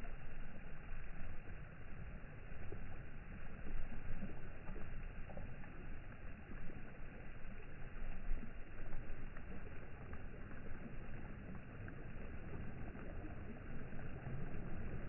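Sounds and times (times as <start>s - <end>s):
sea water rushing and splashing: 0.0s - 15.0s.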